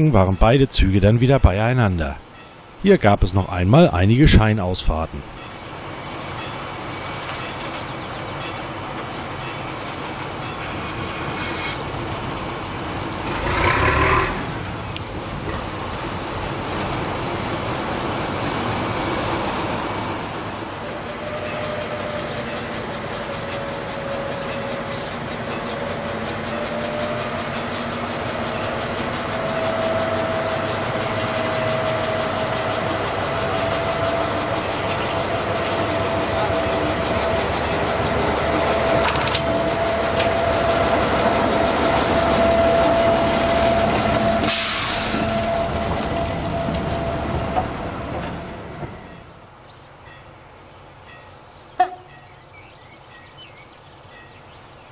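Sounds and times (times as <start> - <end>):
diesel locomotive passing: 0.0 - 54.9
train wheel noise: 4.2 - 54.9.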